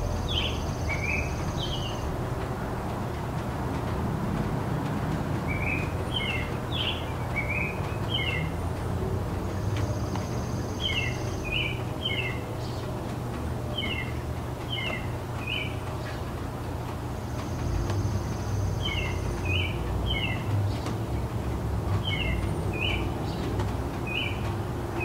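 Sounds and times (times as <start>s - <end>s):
distant city traffic: 0.0s - 25.0s.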